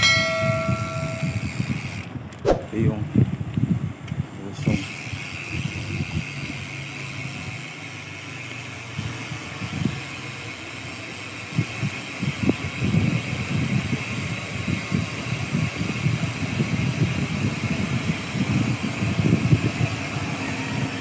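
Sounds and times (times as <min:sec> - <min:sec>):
motor vehicle on road: 0:00.0 - 0:21.0.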